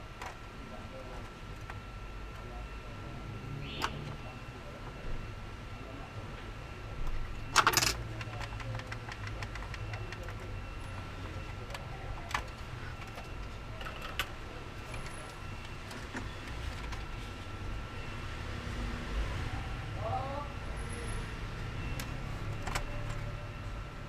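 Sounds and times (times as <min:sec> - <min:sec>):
faint steady whine: 0:00.0 - 0:24.0.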